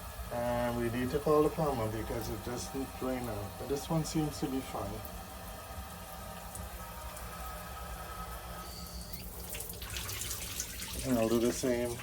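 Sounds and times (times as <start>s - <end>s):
shower water running and draining: 0.0s - 12.0s.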